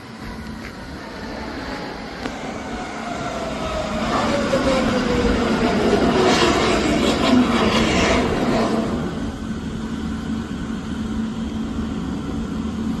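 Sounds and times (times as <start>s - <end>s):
vehicle low hum and rumble: 0.0s - 13.0s.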